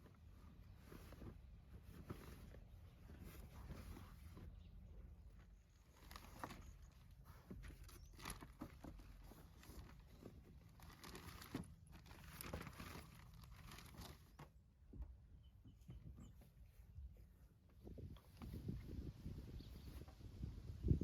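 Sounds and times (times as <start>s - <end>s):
faint rustling: 0.0s - 20.5s.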